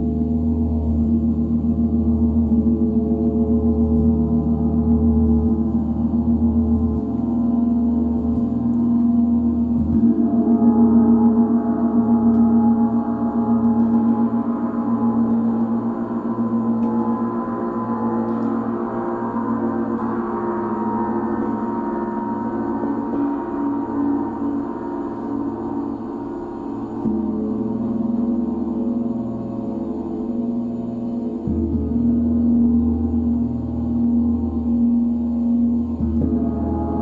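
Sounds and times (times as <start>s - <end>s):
deep low hum: 0.0s - 37.0s.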